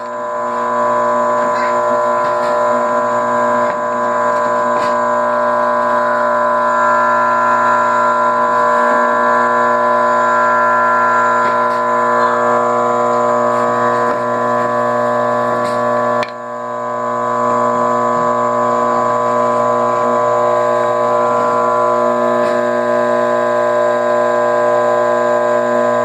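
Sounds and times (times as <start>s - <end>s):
drill press motor humming: 0.0s - 26.0s.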